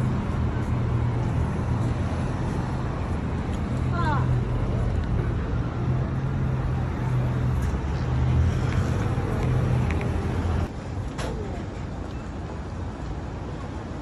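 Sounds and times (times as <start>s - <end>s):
cars driving past: 0.0s - 11.6s.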